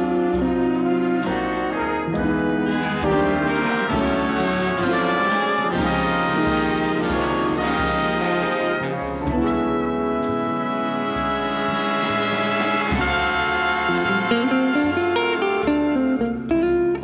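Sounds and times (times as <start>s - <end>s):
jazz big band playing: 0.0s - 17.0s.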